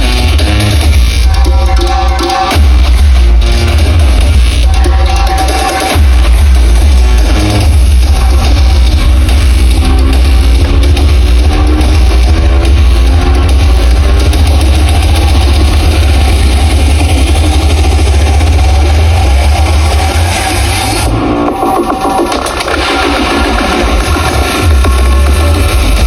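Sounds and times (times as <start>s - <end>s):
booming bass: 0.0s - 1.8s, 2.5s - 26.0s
loud amplified music: 0.0s - 26.0s.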